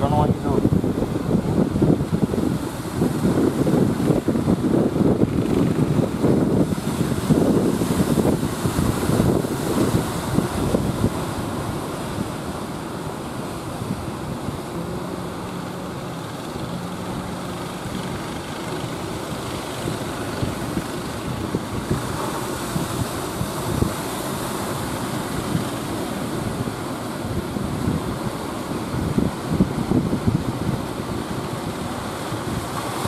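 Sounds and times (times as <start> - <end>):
breaking surf: 0.0 - 33.0
faint boat engine: 0.0 - 33.0
wind buffeting microphone: 0.0 - 33.0.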